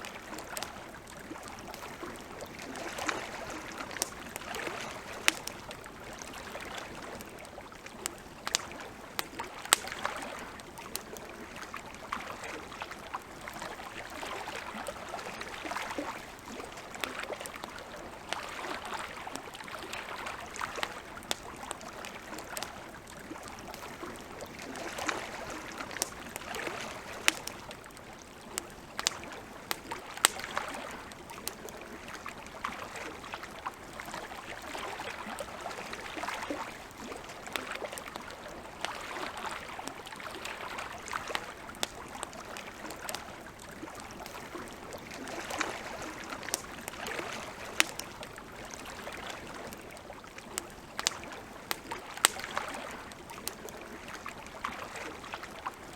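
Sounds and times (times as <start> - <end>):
campfire crackling and popping: 0.0 - 55.9
lake water lapping: 0.0 - 55.9.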